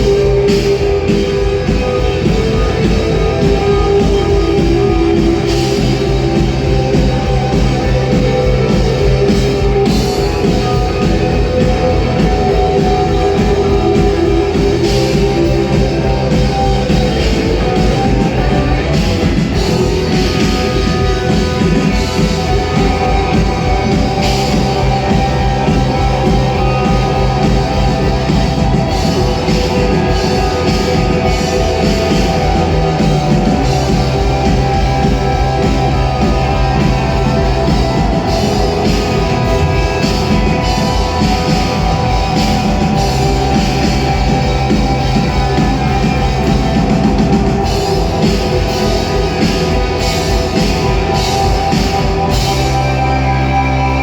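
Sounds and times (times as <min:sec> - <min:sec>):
drum kit: 0:00.0 - 0:54.0
guitars: 0:00.0 - 0:54.0
rock band playing live: 0:00.0 - 0:54.0.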